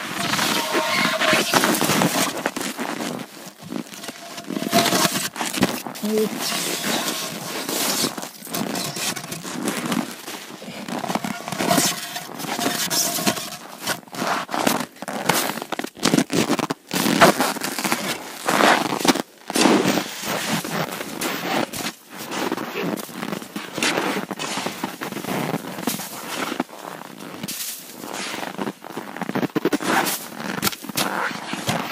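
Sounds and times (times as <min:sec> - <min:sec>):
snow crunching and scraping: 0:00.0 - 0:31.9.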